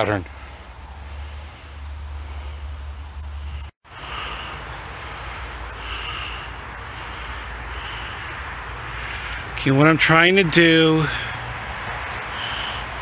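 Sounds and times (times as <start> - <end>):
crickets buzzing: 0.0 - 13.0.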